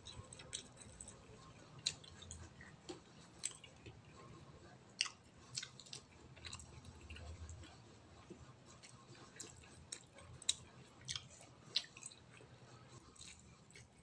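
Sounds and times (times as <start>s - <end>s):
man chewing with wet smacks: 0.0s - 14.0s.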